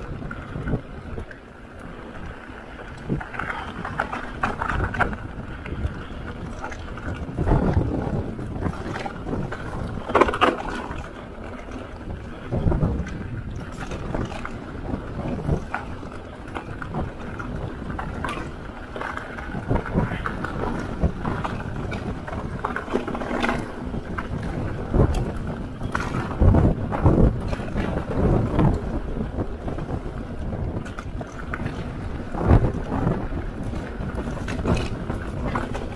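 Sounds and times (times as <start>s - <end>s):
bike rattling over bumps: 0.0s - 35.9s
bike tyres rolling over stones: 0.0s - 35.9s
wind rumbling on microphone: 0.0s - 35.9s.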